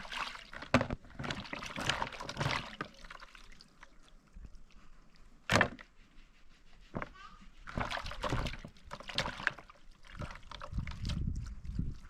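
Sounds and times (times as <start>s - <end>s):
water splashing and pouring: 0.0s - 5.7s, 7.6s - 12.0s.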